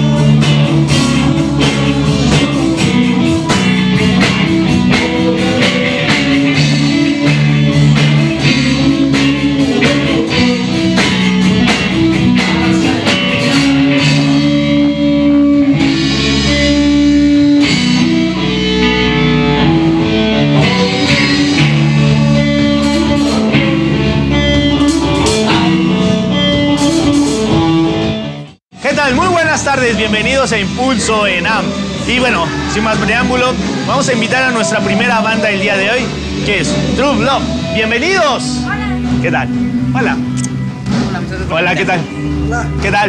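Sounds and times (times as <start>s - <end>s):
bass: 0.0s - 43.0s
drum kit: 0.0s - 43.0s
electric guitars: 0.0s - 43.0s.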